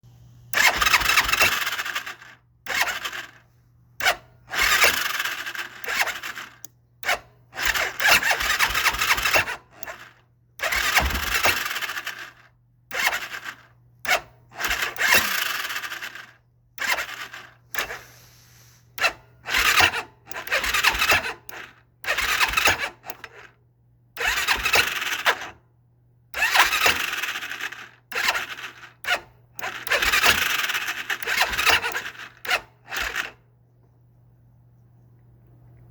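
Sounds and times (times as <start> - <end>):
engine cranking on electric starter: 0.5 - 25.6, 26.3 - 33.4.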